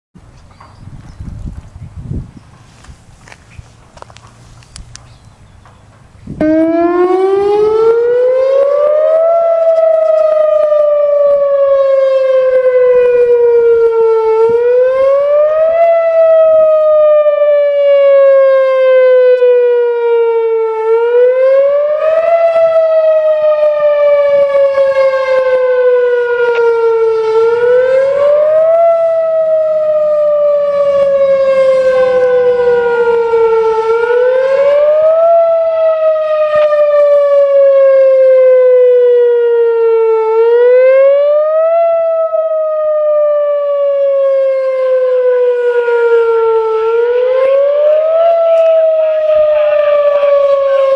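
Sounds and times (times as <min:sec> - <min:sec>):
tornado siren wailing: 0:06.2 - 0:50.9.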